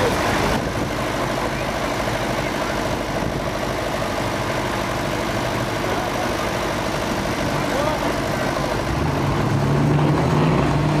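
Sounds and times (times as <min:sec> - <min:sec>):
engine idling: 0:00.0 - 0:09.8.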